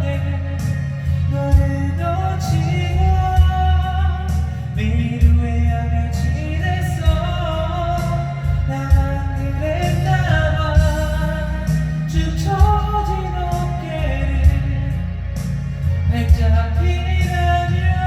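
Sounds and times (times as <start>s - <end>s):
backing track with drums: 0.0s - 18.0s
man singing pop ballad: 0.0s - 18.0s.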